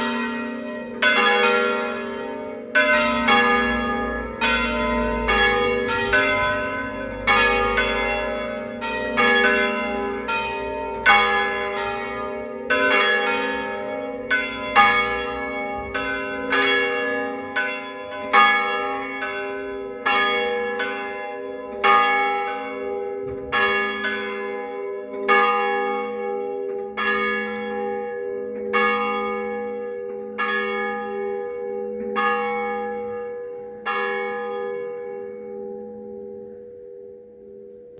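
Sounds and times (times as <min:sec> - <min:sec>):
church bells ringing: 0:00.0 - 0:37.9.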